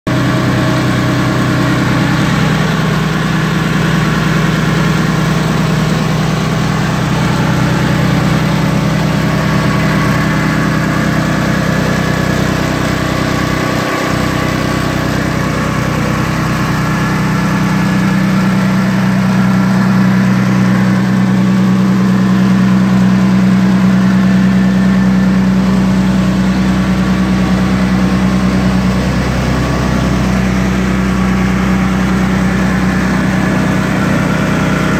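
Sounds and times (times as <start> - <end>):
engine idling: 0.1 - 34.9.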